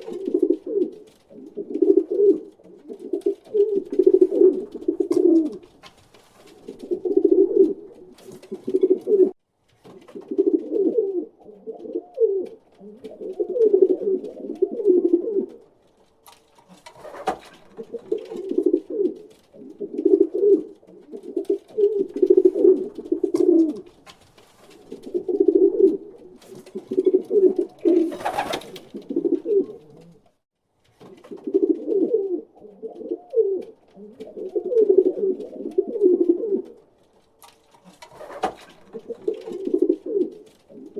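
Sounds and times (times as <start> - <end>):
pigeon cooing: 0.0 - 5.8, 6.6 - 9.4, 10.1 - 15.7, 16.9 - 24.0, 24.8 - 30.3, 31.2 - 36.8, 37.9 - 40.9.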